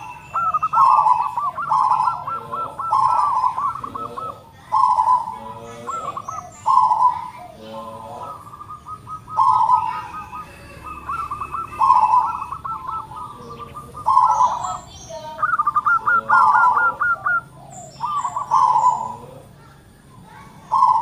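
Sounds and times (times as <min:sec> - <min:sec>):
dove cooing: 0:00.0 - 0:21.0
faint high chirps: 0:00.0 - 0:21.0.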